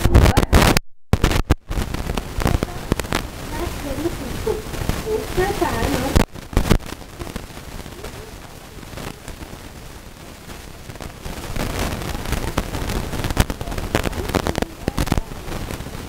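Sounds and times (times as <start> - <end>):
sharp cracks: 0.0 - 16.0.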